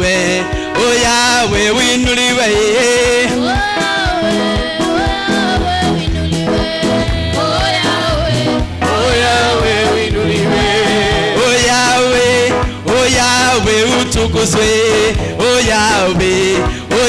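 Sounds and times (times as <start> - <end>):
amplified backing music: 0.0 - 17.0
drum hits: 0.0 - 17.0
singers singing into microphones: 0.0 - 17.0.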